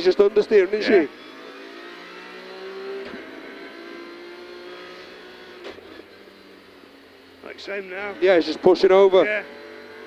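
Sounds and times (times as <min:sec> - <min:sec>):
rally car engine under load: 0:00.0 - 0:10.0.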